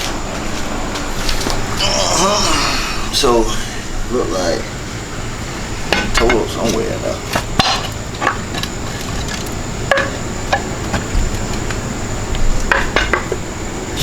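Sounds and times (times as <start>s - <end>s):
steady background hiss: 0.0s - 14.0s
thin high whine: 0.0s - 14.0s.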